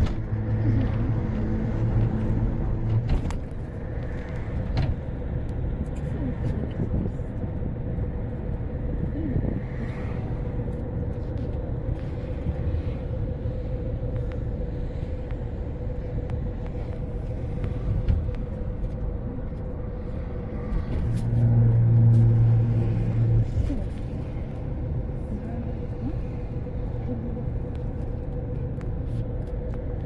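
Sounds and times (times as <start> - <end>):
car road and engine rumble: 0.0 - 30.0
low drone of another vehicle: 0.0 - 30.0.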